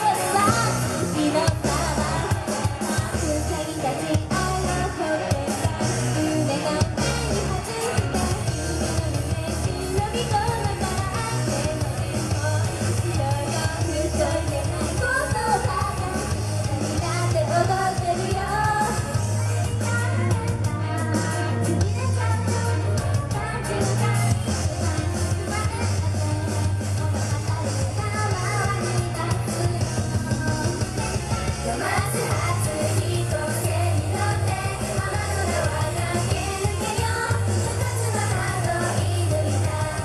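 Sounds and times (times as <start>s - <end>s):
loud pop-rock music: 0.0s - 40.0s.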